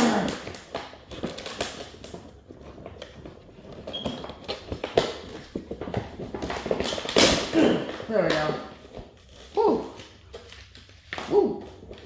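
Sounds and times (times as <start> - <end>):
hands rustling packaging: 0.0 - 12.0.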